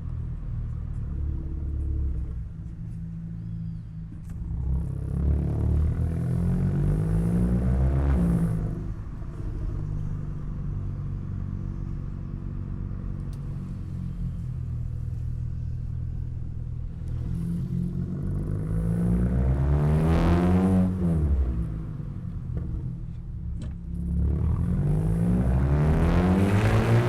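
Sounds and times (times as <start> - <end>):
car exhaust while driving: 0.0 - 27.0.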